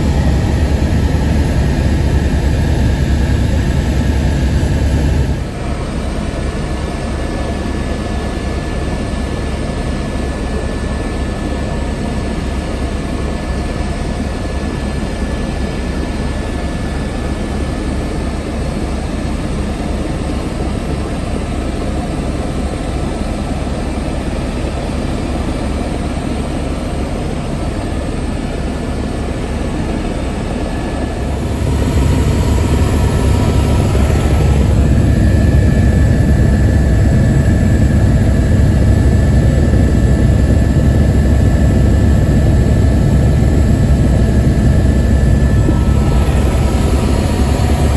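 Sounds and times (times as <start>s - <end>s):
helicopter engine and rotor drone: 0.0s - 47.9s.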